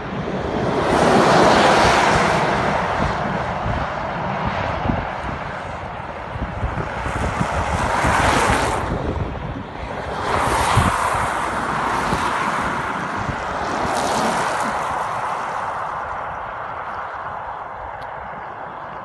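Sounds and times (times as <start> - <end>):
vehicles passing close by: 0.0 - 19.0
wind buffeting microphone: 0.0 - 19.0.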